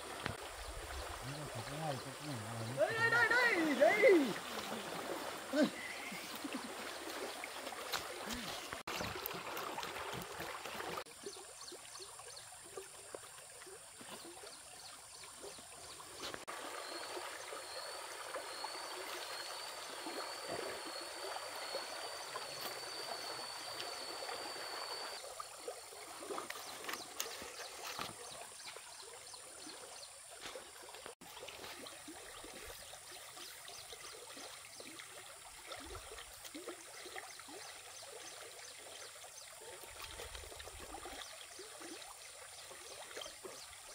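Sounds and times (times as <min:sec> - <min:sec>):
stream water trickling: 0:00.0 - 0:43.9.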